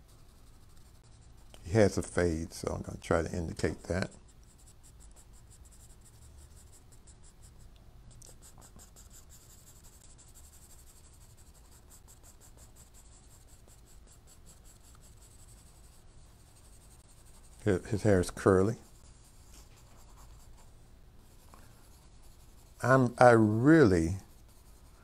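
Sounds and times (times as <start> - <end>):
pencil scratching on paper: 0.0 - 7.7, 8.3 - 20.7, 21.3 - 25.0.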